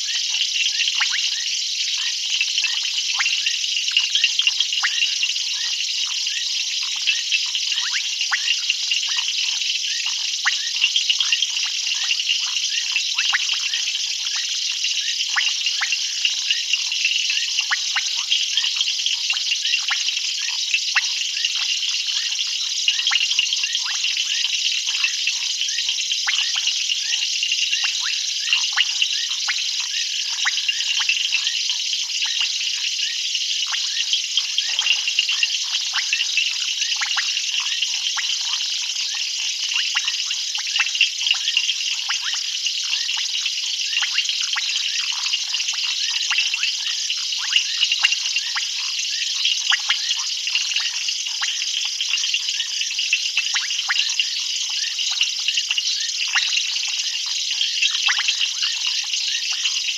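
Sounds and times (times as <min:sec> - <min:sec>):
frogs chorus calling: 0:00.0 - 0:59.9.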